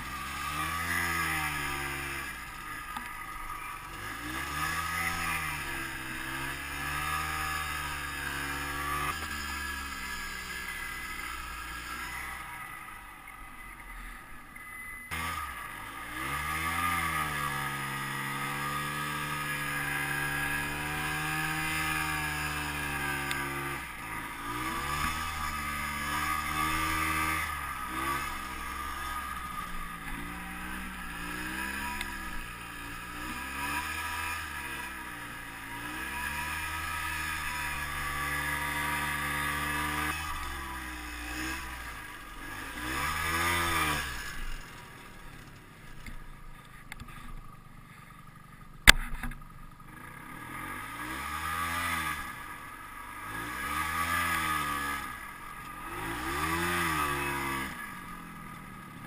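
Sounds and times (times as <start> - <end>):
snowmobile engine revving: 0.0 - 12.8, 15.1 - 45.6, 49.9 - 59.0.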